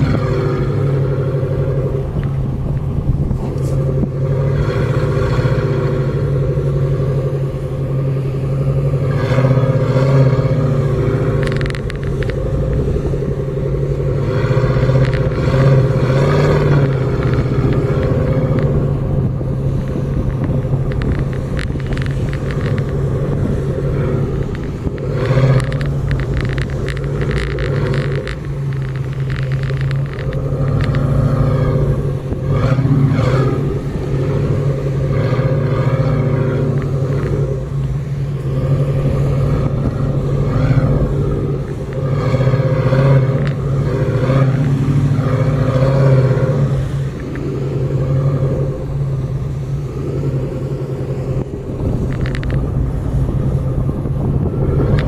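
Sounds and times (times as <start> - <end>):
car engine under load: 0.0 - 55.0
knocks and rattles from bumpy ride: 0.0 - 55.0.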